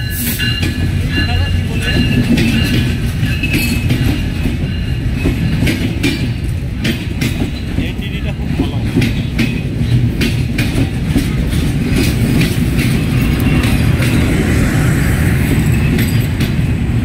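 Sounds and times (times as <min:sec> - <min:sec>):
train rumbling: 0:00.0 - 0:17.0
wheels clacking over rail joints: 0:00.0 - 0:17.0.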